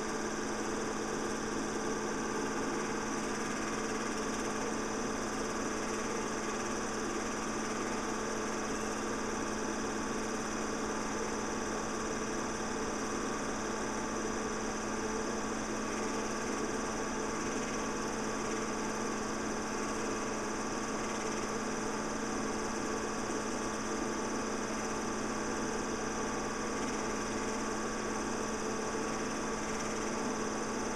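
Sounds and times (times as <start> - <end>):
film projector whirring: 0.0 - 30.9.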